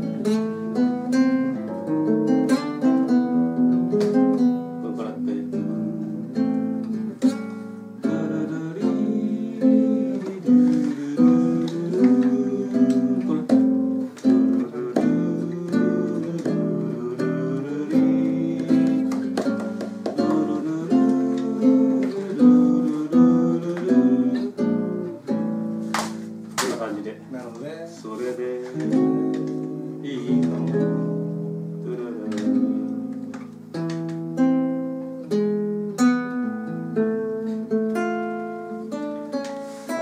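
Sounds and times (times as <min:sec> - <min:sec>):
two acoustic guitars playing: 0:00.0 - 0:40.0.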